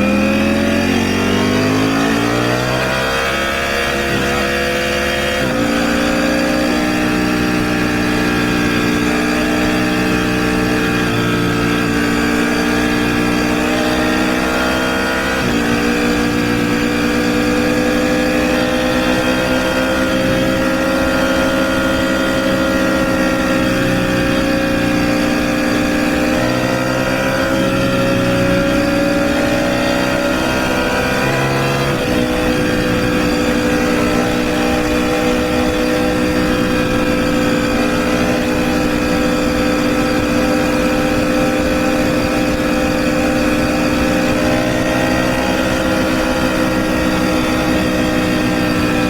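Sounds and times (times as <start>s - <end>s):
motorcycle engine cruising: 0.0s - 49.0s.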